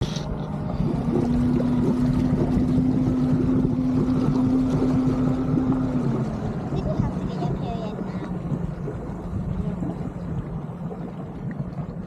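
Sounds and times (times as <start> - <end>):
motorboat engine running: 0.0 - 12.0
rushing low rumble: 0.0 - 12.0.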